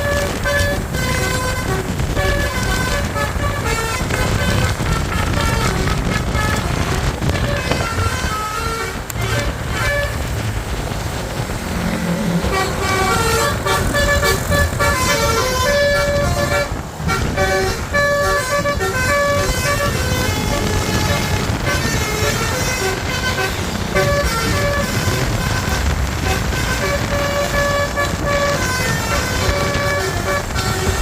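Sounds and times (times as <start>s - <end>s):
multi-tone musical air horn tune: 0.0s - 10.4s, 11.9s - 31.0s
bus engine running: 0.0s - 31.0s.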